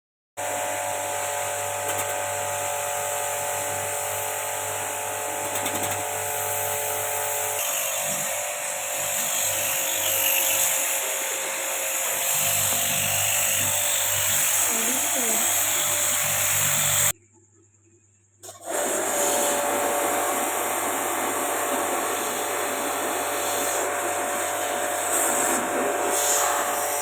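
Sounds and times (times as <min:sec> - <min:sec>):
small electric motor humming: 0:00.4 - 0:17.2, 0:18.5 - 0:27.0.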